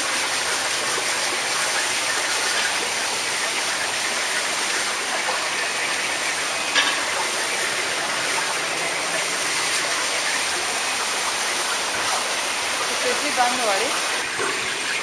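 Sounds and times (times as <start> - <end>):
water rushing in tanks: 0.0 - 15.0.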